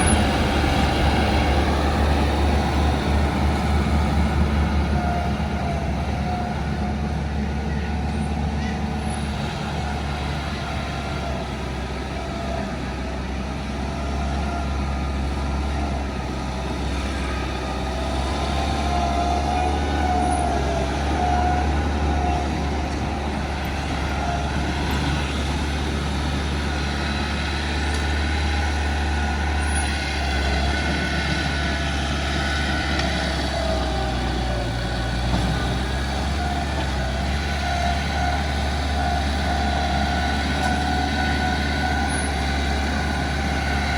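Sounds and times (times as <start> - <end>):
bulldozer diesel engine: 0.0 - 43.9.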